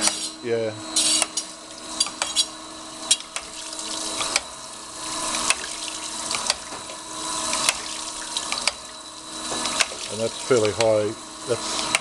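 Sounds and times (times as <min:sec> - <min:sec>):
grinding hiss: 0:00.0 - 0:12.0
motor hum: 0:00.0 - 0:12.0.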